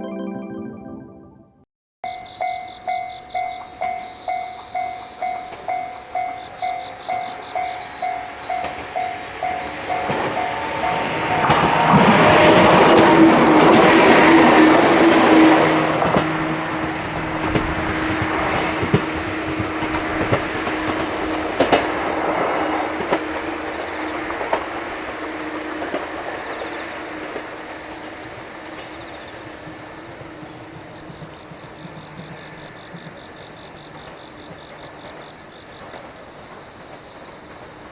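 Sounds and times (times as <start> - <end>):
electric train running past: 2.1 - 37.9
train wheels clicking over rail joints: 2.4 - 37.9.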